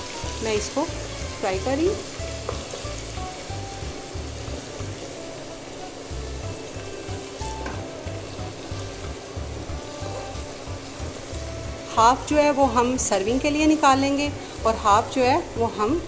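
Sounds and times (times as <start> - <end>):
background music: 0.0 - 16.0
ginger sizzling in hot oil: 0.0 - 16.0.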